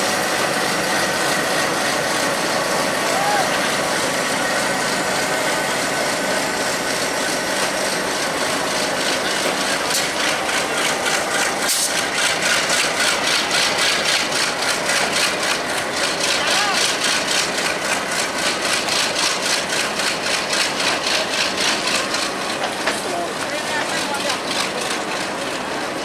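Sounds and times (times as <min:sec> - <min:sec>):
diesel locomotive engine running: 0:00.0 - 0:26.0
train wheels clattering on track: 0:00.0 - 0:26.0.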